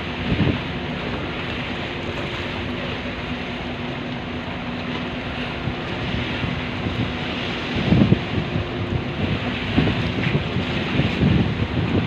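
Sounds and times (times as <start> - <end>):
waves washing against breakwater: 0.0 - 12.0
wind buffeting microphone: 0.0 - 12.0.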